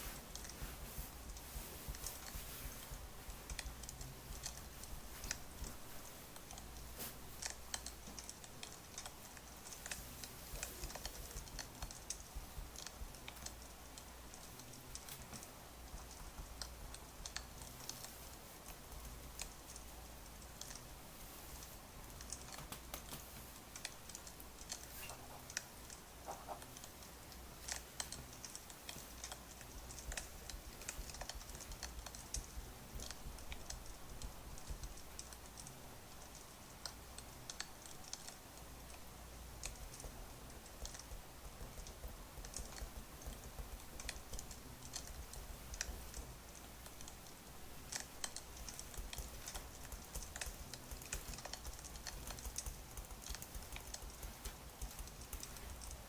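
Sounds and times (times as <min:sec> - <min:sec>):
soft steady hiss: 0:00.0 - 0:56.0
wood fire crackling and popping: 0:00.0 - 0:56.0.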